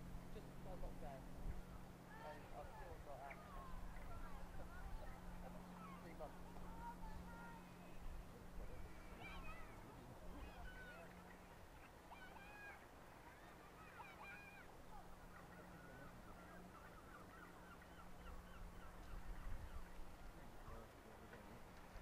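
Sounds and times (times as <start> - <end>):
steady low hum: 0.0 - 22.0
faint bird chirps: 1.1 - 20.8.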